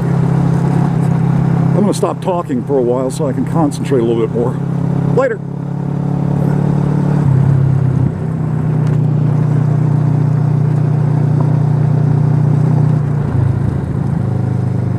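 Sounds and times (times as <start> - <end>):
motorcycle engine running: 0.0 - 14.9
road noise: 0.0 - 14.9.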